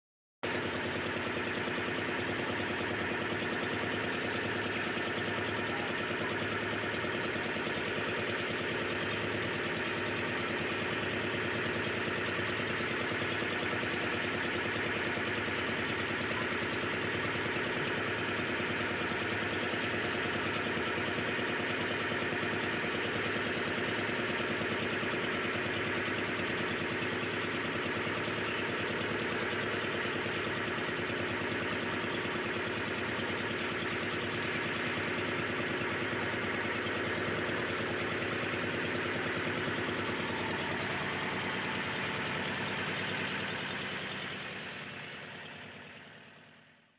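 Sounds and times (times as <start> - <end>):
small motorboat engine running: 0.4 - 46.9.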